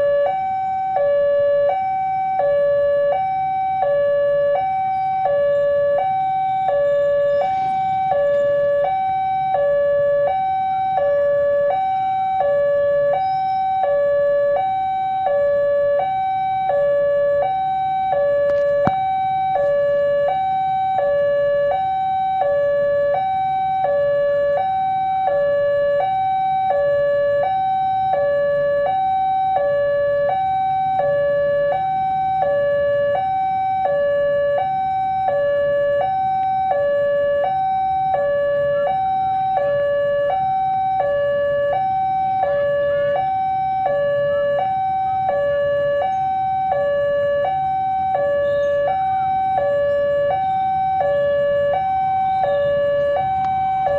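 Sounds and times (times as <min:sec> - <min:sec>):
level crossing warning bell: 0:00.0 - 0:53.9.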